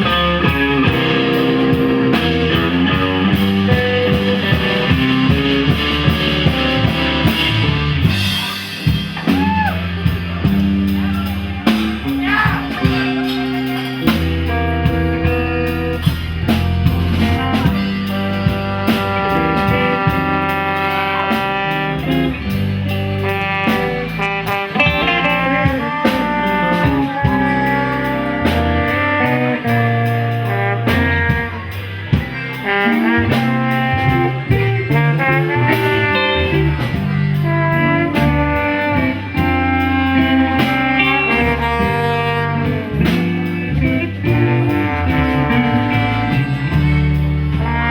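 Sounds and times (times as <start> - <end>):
live band playing: 0.0 - 47.9
saxophone melody: 0.0 - 47.9.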